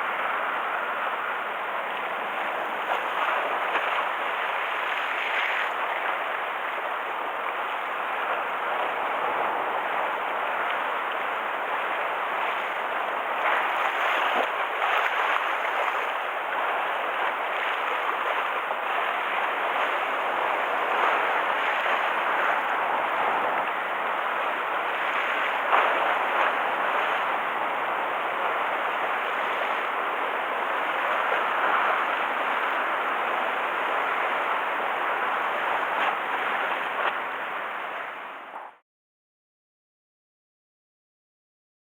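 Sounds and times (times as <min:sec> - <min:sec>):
waves washing against harbour: 0:00.0 - 0:38.8.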